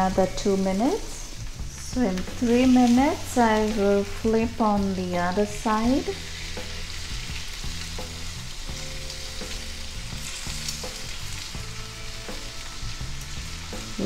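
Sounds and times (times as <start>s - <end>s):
meat sizzling in grill pan: 0.0s - 14.0s.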